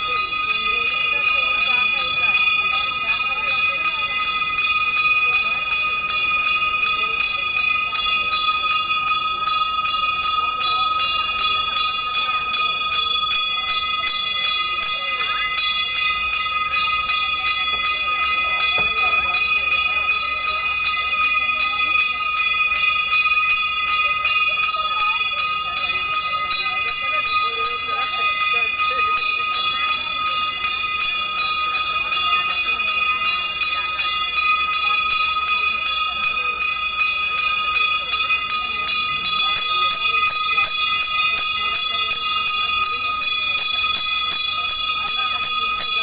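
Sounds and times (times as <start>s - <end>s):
faint crowd voices: 0.0s - 46.0s
temple bell rung rapidly: 0.0s - 46.0s.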